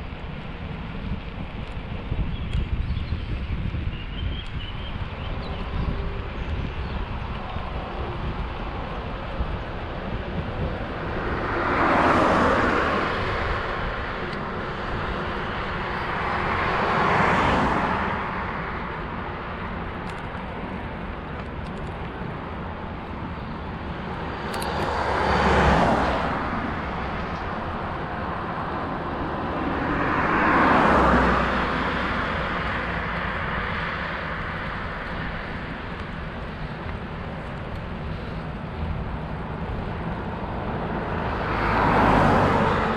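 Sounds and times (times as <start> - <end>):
vehicles passing whoosh: 0.0 - 42.9
wind and road noise: 0.0 - 42.9.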